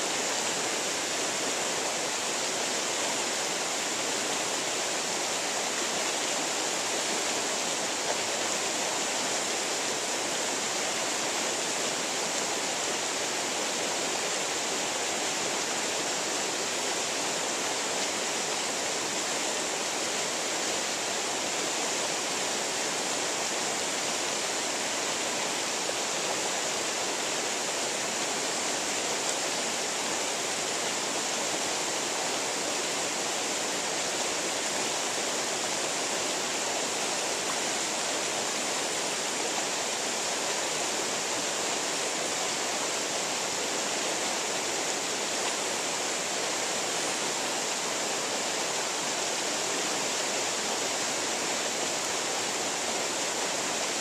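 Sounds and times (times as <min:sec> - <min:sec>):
creek rushing over stones: 0:00.0 - 0:54.0.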